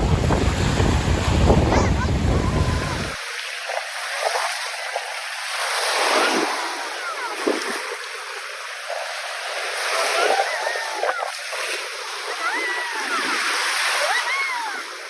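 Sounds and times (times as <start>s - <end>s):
waves washing onto shore: 0.0s - 15.0s.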